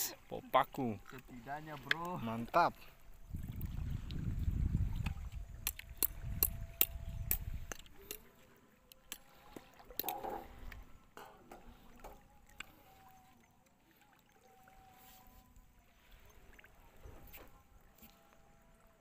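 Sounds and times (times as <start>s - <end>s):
legs wading through water: 0.0s - 19.0s
water lapping: 0.0s - 19.0s.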